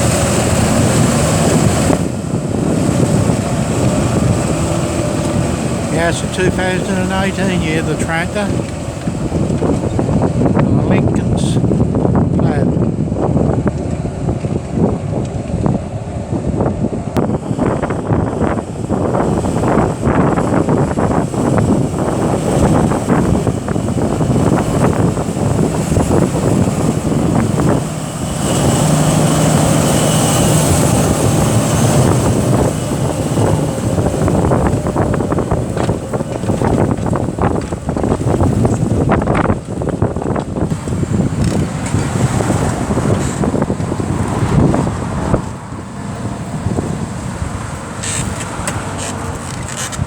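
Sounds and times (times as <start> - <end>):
tractor engine running under load: 0.0 - 50.0
wind noise on microphone: 0.0 - 50.0.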